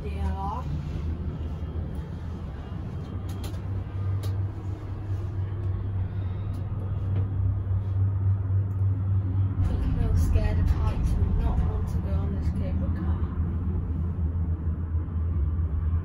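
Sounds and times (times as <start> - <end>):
cable car cabin drone: 0.0 - 16.0.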